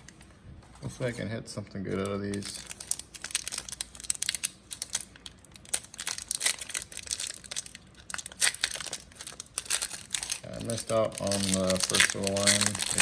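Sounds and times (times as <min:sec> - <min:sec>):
plastic wrapper crinkling: 0:01.9 - 0:13.0.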